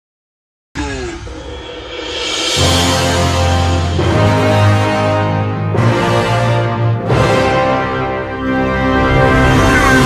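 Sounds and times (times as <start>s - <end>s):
soundtrack music with held tones: 0.8s - 10.0s.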